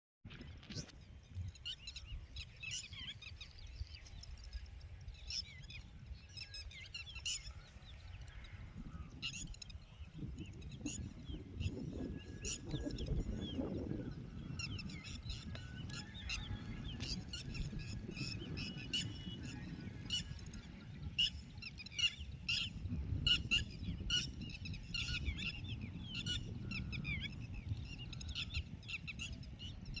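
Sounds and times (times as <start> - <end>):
birds chirping: 0.3 - 30.0.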